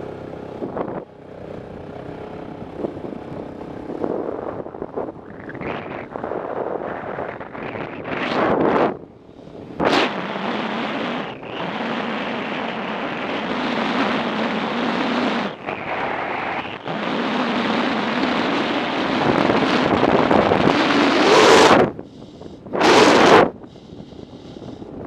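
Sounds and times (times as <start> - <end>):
motorcycle engine: 0.0 - 22.0
road noise: 0.0 - 25.0
wind rushing over microphone: 0.0 - 25.0.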